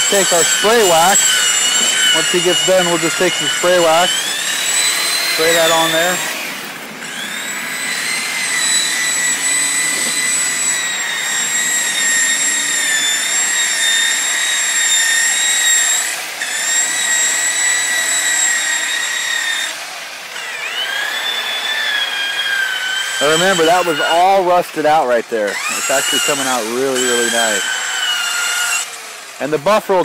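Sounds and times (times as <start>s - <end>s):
rotary buffer motor whine: 0.0s - 30.0s.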